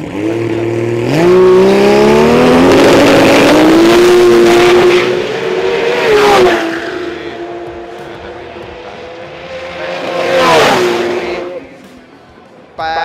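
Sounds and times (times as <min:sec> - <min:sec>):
race car passing at full throttle: 0:00.0 - 0:12.4.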